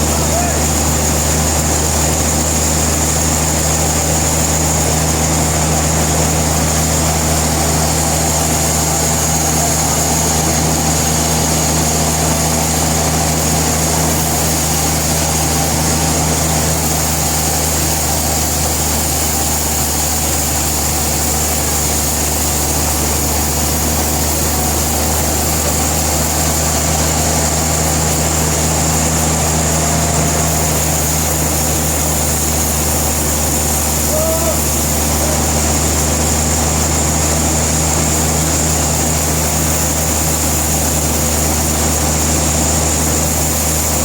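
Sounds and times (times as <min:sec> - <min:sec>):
low engine drone: 0:00.0 - 0:44.0.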